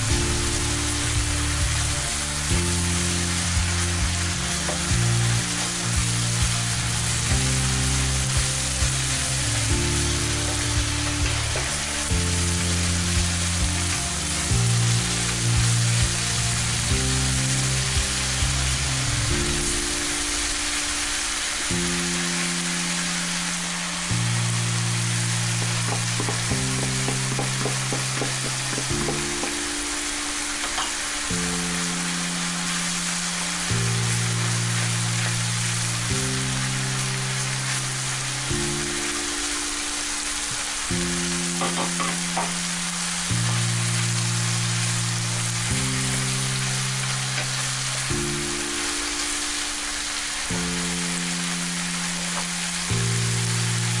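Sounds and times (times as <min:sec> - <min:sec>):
food sizzling in a frying pan: 0:00.0 - 0:54.0
slow held chords music: 0:00.0 - 0:54.0.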